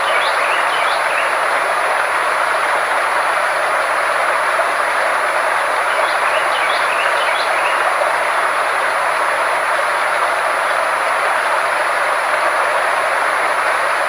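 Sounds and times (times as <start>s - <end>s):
constant high-pitched tone: 0.0s - 14.0s
steady rushing noise: 0.0s - 14.0s.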